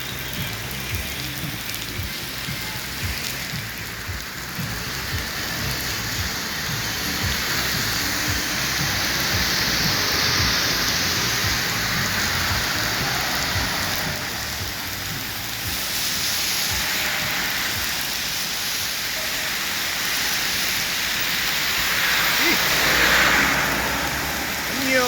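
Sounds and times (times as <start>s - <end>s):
heavy rain on street: 0.0s - 25.0s.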